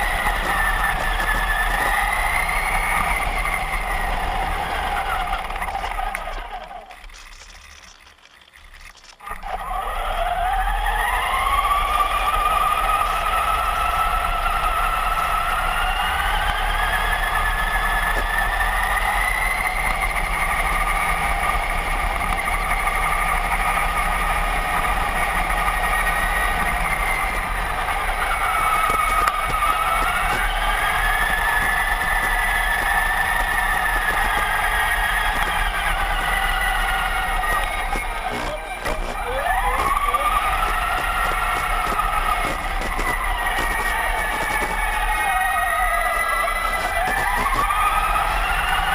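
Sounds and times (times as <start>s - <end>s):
toy truck electric motor whine: 0.0s - 48.9s.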